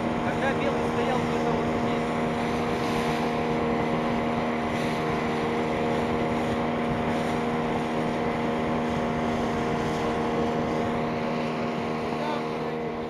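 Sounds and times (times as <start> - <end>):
outboard motor running: 0.0 - 13.0
water splashing along hull: 0.0 - 13.0.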